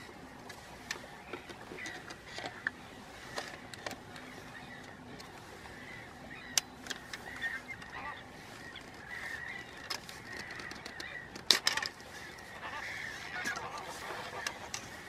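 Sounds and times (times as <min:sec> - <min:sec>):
flamingos honking: 0:00.0 - 0:15.0.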